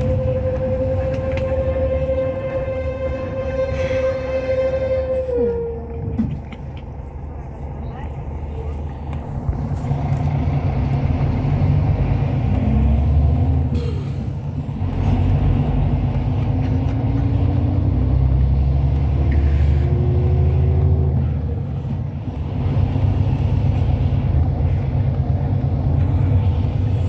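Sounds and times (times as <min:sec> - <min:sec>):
coach engine and road rumble: 0:00.0 - 0:27.0.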